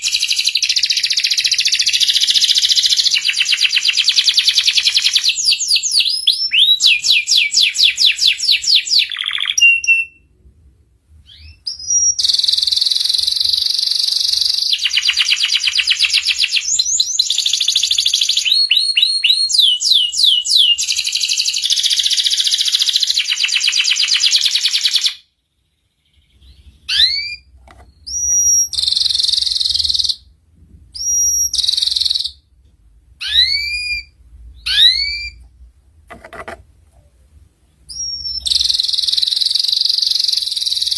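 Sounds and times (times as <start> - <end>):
canary singing: 0.0 - 10.3, 11.2 - 30.4, 31.0 - 32.5, 33.2 - 36.5, 37.7 - 40.9.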